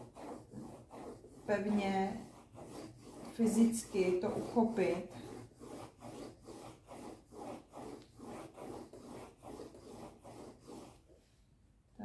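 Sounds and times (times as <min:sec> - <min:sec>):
pencil scratching on paper: 0:00.0 - 0:11.2.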